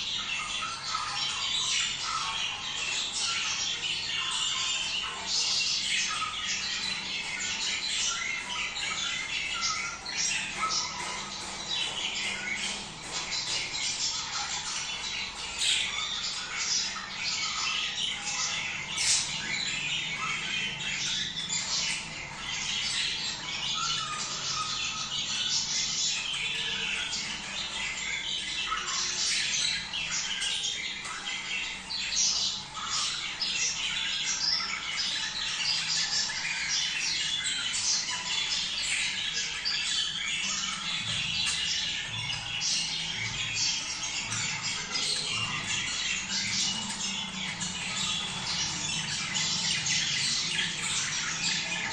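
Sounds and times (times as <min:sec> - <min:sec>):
budgerigar flock chattering: 0:00.0 - 0:51.9.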